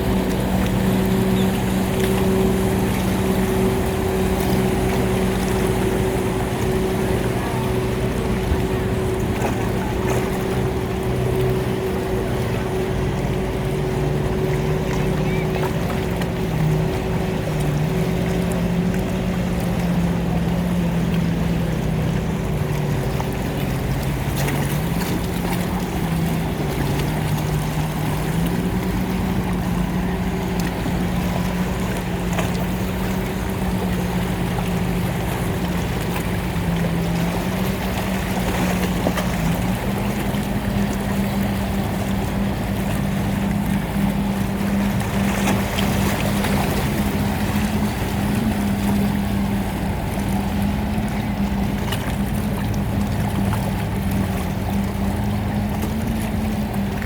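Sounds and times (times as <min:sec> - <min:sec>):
boat engine running: 0:00.0 - 0:57.0
water wash: 0:00.0 - 0:57.0.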